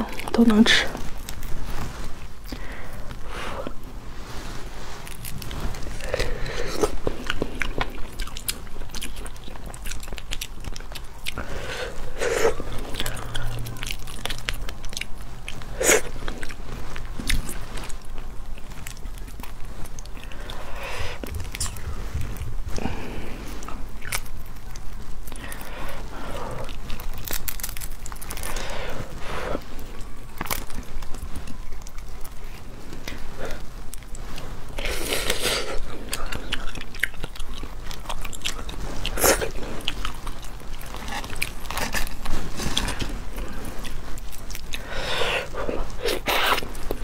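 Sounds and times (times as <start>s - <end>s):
crunching bites and chewing: 4.9s - 47.0s.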